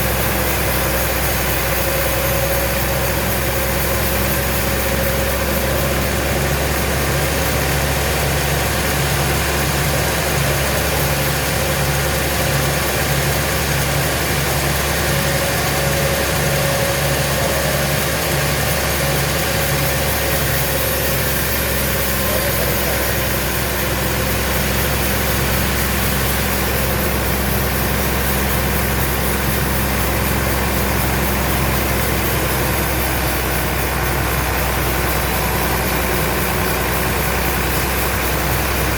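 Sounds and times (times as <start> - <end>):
engine humming steadily: 0.0 - 38.9.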